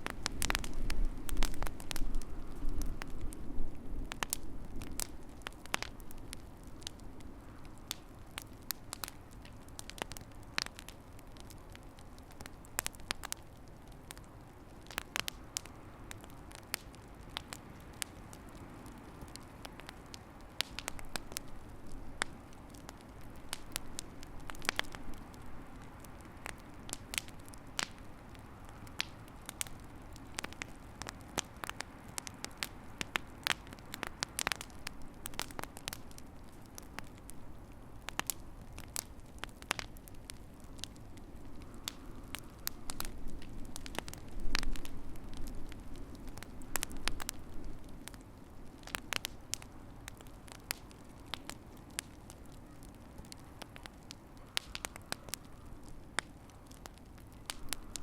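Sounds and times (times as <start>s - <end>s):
fire crackling in fireplace: 0.0s - 58.0s.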